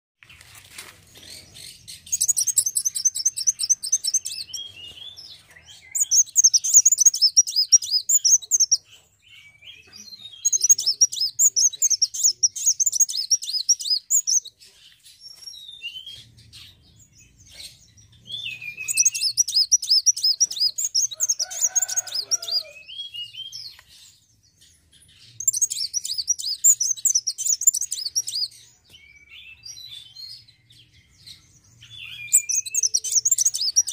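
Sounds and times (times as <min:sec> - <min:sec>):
sunbird twittering trills: 0:01.1 - 0:14.6, 0:15.2 - 0:33.9.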